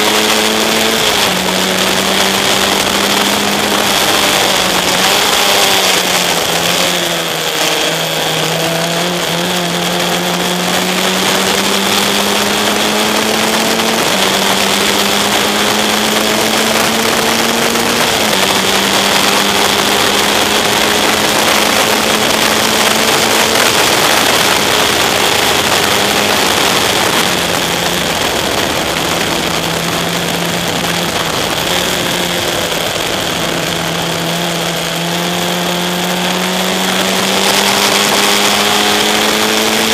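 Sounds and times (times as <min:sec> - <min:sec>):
heavy wind rush: 0:00.0 - 0:39.9
race car engine accelerating: 0:00.0 - 0:39.9.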